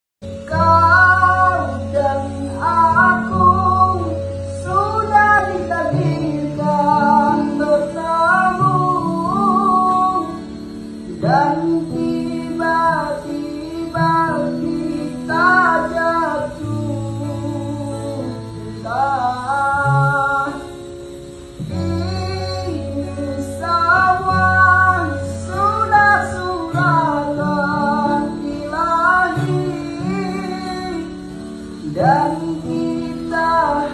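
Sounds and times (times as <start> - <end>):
man singing: 0.2 - 21.0, 21.6 - 33.9
acoustic guitar: 0.2 - 33.9.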